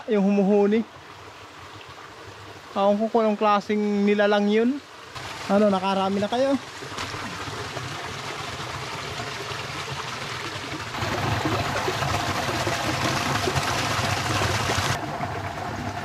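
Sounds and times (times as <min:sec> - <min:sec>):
rocky stream running: 0:00.0 - 0:16.0
small waterfall splashing: 0:00.1 - 0:16.0.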